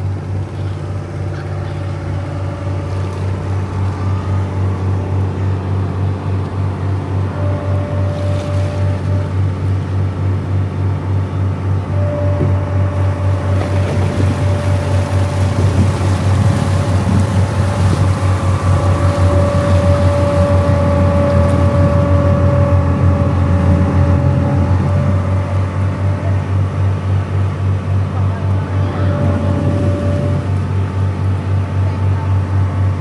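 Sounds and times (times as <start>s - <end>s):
boat engine droning: 0.0s - 33.0s
water churning in wake: 0.0s - 33.0s.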